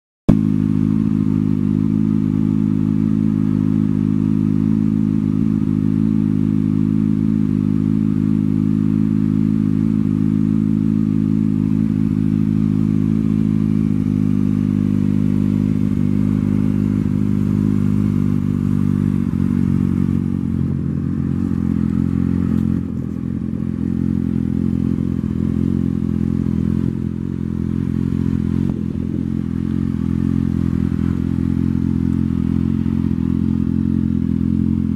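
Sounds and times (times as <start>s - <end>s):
motorcycle engine idling: 0.3s - 34.9s.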